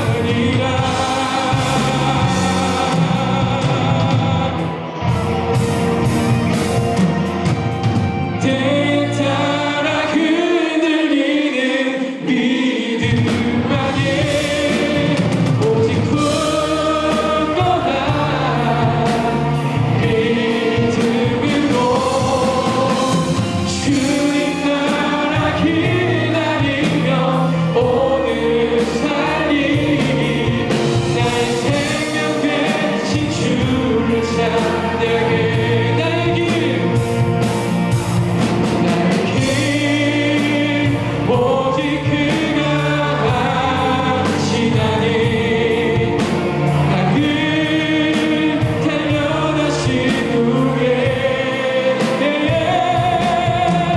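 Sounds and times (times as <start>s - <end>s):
voices singing together: 0.0s - 53.9s
worship band playing: 0.0s - 53.9s.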